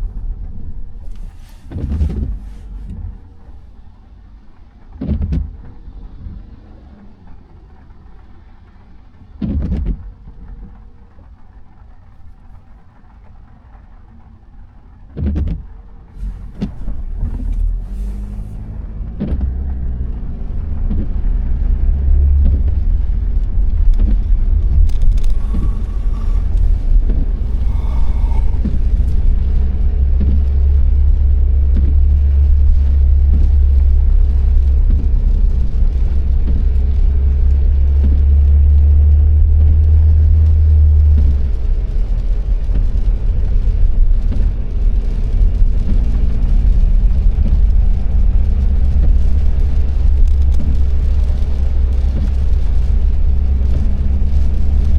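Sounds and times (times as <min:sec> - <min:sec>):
car engine rumble: 0:00.0 - 0:54.9.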